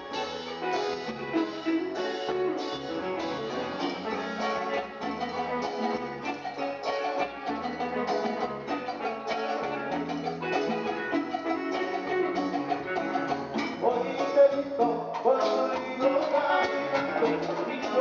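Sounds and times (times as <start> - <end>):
cumbia band playing: 0.0 - 18.0
electric guitar: 0.0 - 18.0.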